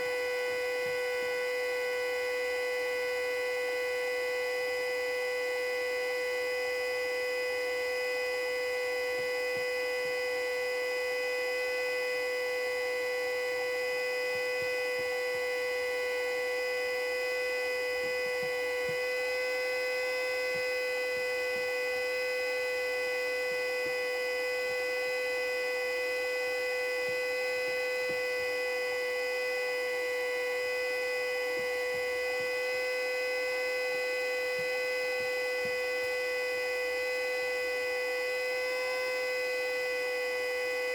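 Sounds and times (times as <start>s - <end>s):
siren steady alert tone: 0.0s - 40.9s.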